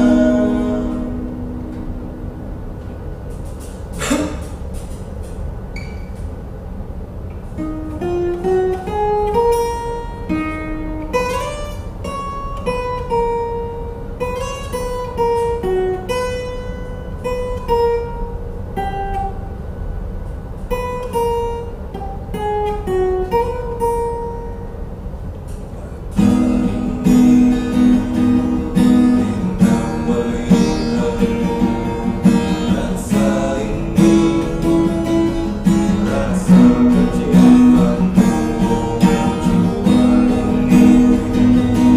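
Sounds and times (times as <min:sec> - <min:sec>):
acoustic guitar: 0:00.0 - 0:41.9
steady low hum: 0:00.0 - 0:41.9.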